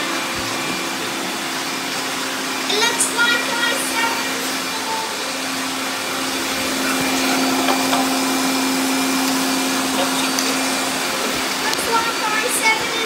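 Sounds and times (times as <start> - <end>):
robot vacuum cleaners whirring: 0.0 - 13.0.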